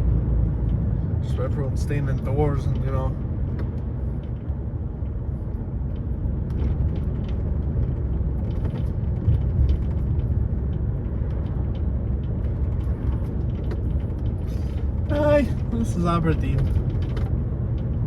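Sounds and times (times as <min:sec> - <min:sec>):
road rumble: 0:00.0 - 0:18.0
light ticks and rattles: 0:00.5 - 0:18.0.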